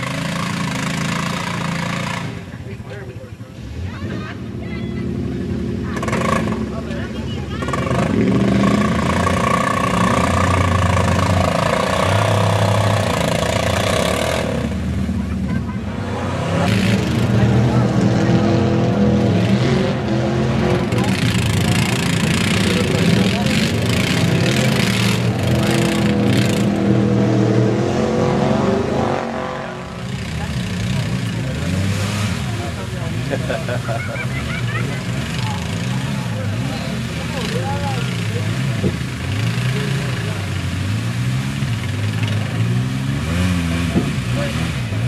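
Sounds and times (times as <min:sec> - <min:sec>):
atv engine under load: 0:00.0 - 0:15.8, 0:19.3 - 0:27.0, 0:30.0 - 0:45.0.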